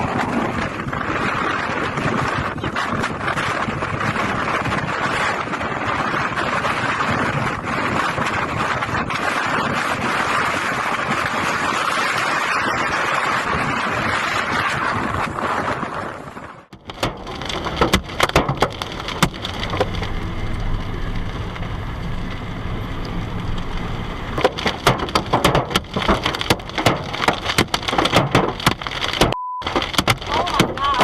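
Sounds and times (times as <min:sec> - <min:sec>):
heavy rain pelting a surface: 0:00.0 - 0:31.0
wind: 0:00.0 - 0:31.0.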